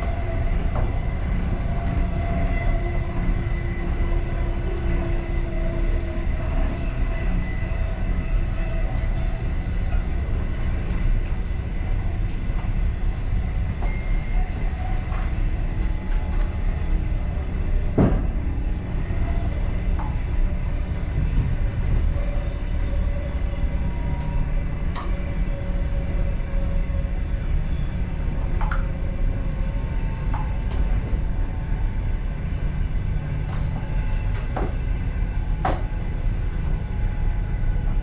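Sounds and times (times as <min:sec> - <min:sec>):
faint whining tones: 0:00.0 - 0:38.0
train rolling rumble: 0:00.0 - 0:38.0.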